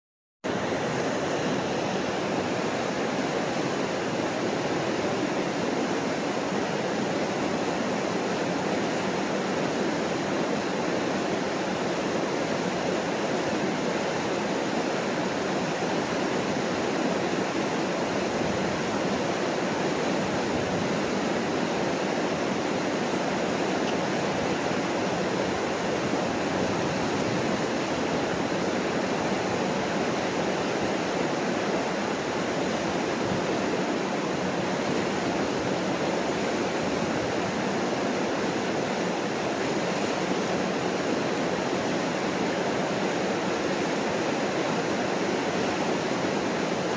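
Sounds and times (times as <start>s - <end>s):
water rushing over rock rapids: 0.5s - 46.9s.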